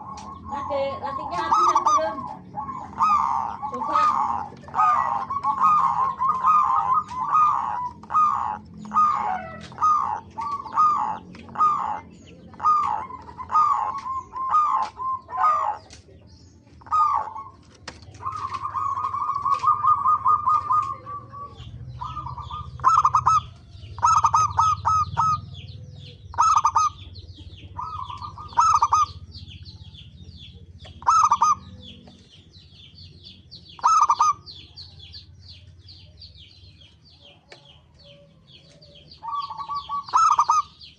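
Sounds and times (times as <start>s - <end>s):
dove cooing: 0.0s - 16.0s, 16.8s - 36.6s, 37.2s - 40.9s
small birds chirping: 0.0s - 40.9s.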